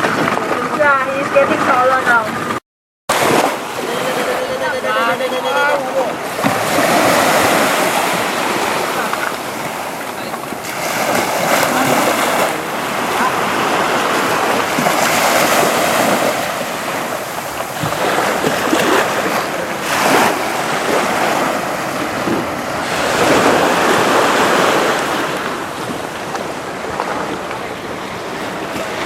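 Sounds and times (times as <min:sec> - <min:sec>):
rushing water: 0:00.0 - 0:29.0
wind buffeting microphone: 0:03.2 - 0:29.0.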